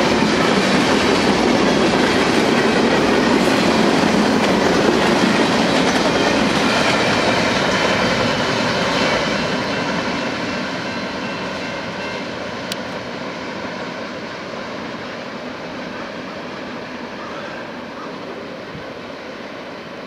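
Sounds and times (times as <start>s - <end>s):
freight train rumbling on rails: 0.0s - 20.0s.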